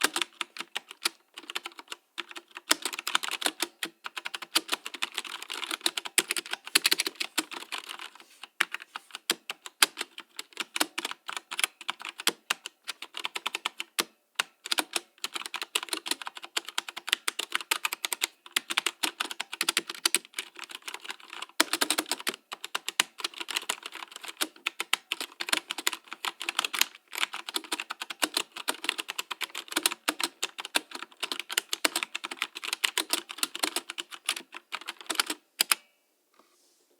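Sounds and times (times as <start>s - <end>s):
typing on mechanical keyboard: 0.0s - 35.8s.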